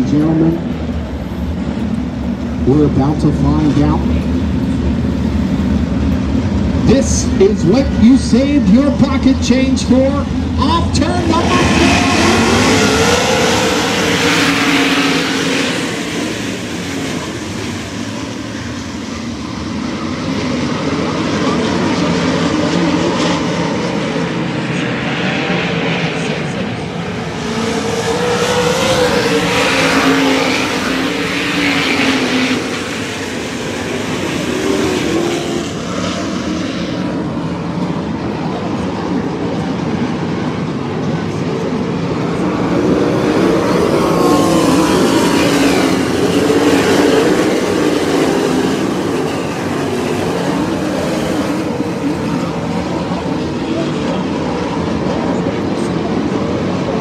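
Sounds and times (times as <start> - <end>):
race car engines roaring past: 0.0 - 57.0.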